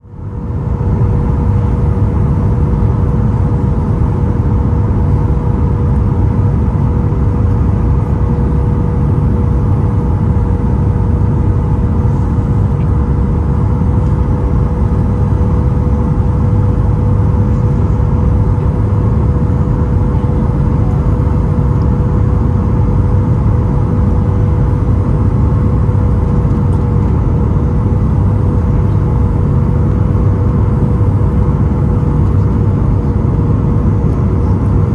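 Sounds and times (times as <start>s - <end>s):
jet engine hum: 0.0s - 34.9s
rush of air in cabin: 0.2s - 34.9s.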